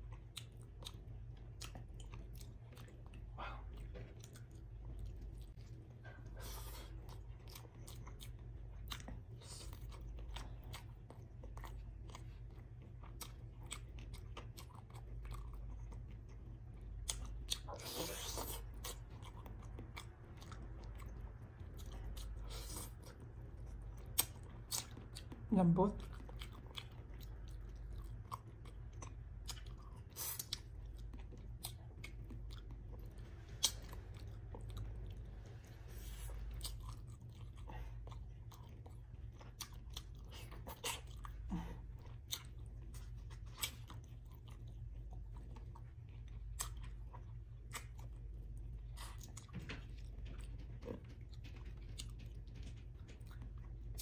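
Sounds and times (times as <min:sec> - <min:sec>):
person chewing with wet smacks: 0:00.0 - 0:54.0
steady low hum: 0:00.0 - 0:54.0.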